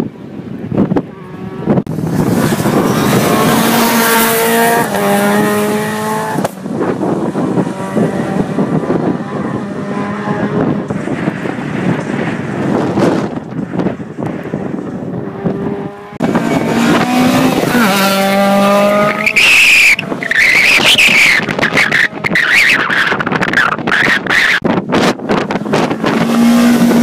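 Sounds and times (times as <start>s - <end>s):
rally car engine accelerating: 1.2s - 13.8s, 14.8s - 23.9s, 25.0s - 27.0s.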